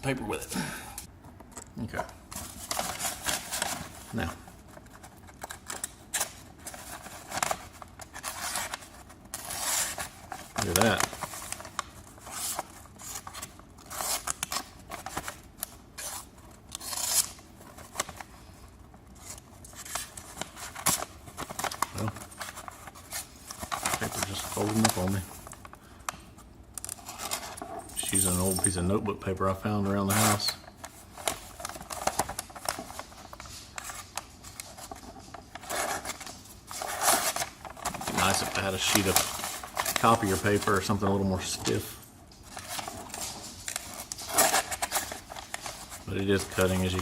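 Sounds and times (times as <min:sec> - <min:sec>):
paper rustling: 0:02.0 - 0:25.8, 0:29.8 - 0:47.0.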